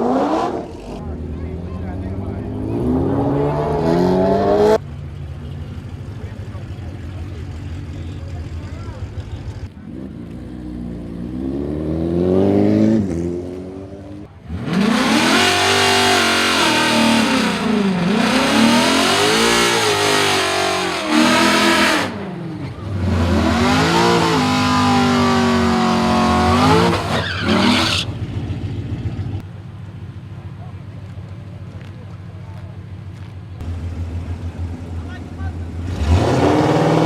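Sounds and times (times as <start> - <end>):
car engine revving: 0.0 - 29.4, 33.6 - 37.0.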